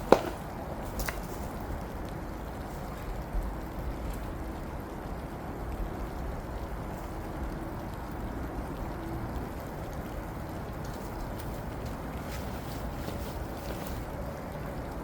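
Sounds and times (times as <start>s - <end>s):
distant background noise: 0.0s - 15.0s
wind: 0.0s - 15.0s.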